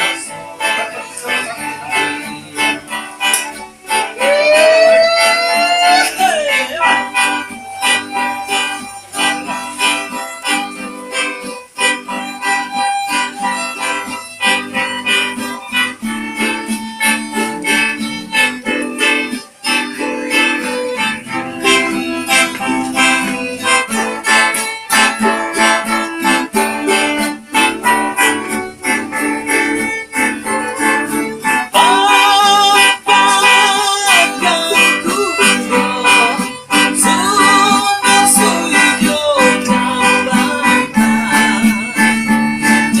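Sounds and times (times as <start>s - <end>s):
melody over guitar: 0.0s - 43.0s
plucked guitar: 0.0s - 43.0s.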